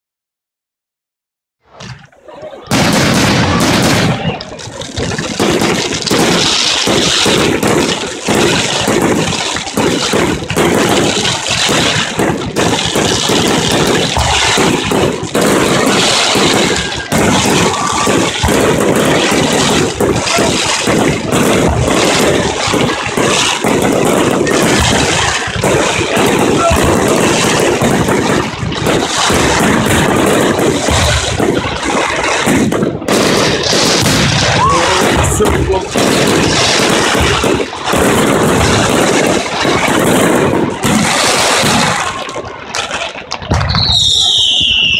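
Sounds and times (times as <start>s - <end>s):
fireworks bangs and crackling: 1.7s - 44.9s.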